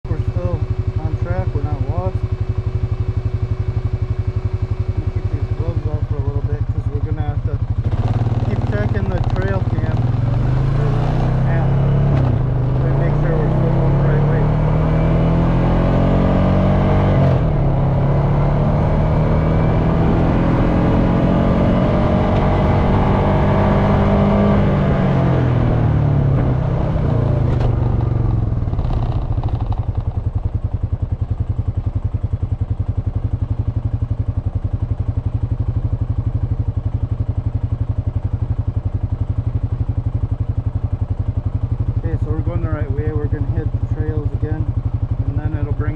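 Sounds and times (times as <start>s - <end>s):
atv engine running and idling: 0.1s - 45.9s.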